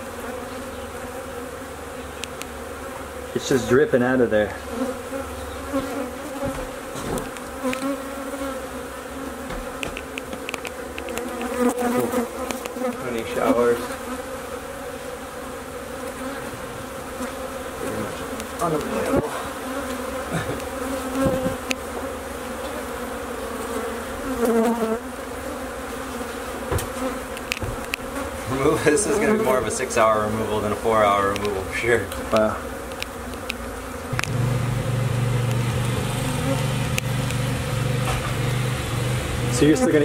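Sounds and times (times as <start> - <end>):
bee flying past: 0.0 - 40.0
bees buzzing drone: 0.0 - 40.0.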